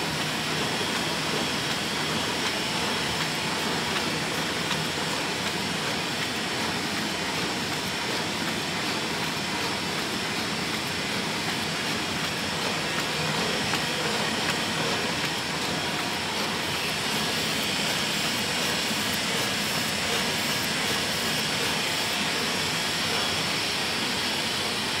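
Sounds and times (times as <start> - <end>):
printing press running: 0.0 - 25.0.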